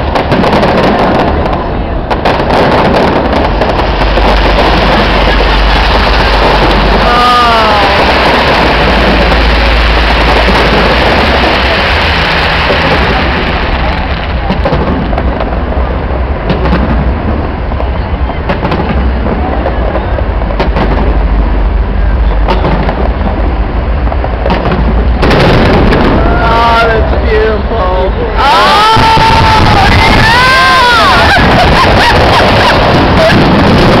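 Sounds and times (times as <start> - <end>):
sharp firework bangs: 0.0 - 27.5, 28.5 - 34.0
fireworks crackle and rumble: 0.0 - 34.0.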